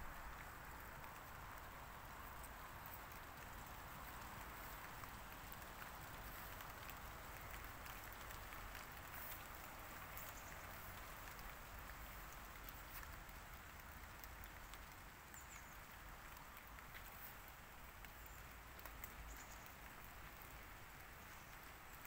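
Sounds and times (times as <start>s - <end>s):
soft hiss: 0.0s - 22.0s
faint ticks: 0.3s - 22.0s.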